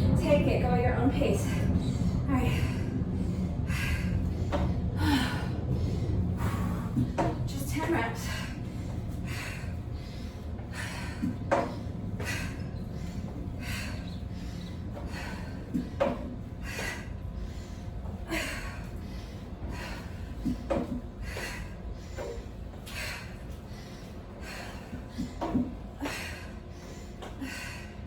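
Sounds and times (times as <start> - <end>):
woman breathing heavily: 0.0 - 28.0.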